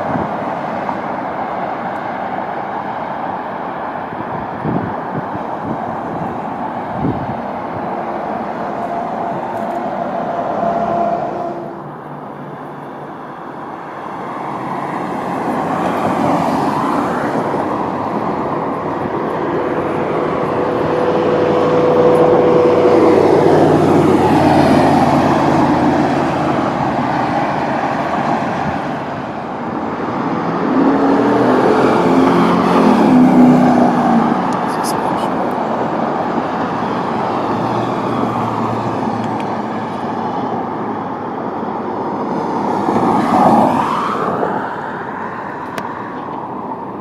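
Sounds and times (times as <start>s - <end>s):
vehicles passing: 0.0s - 47.0s.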